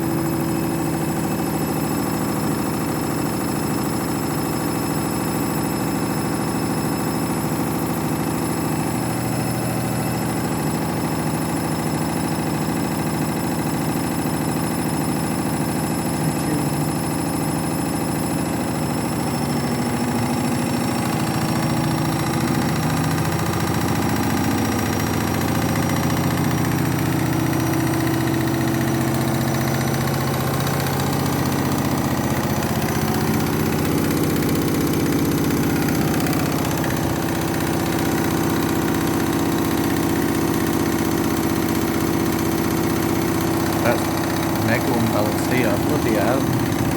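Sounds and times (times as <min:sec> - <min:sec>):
washing machine motor whining: 0:00.0 - 0:46.9.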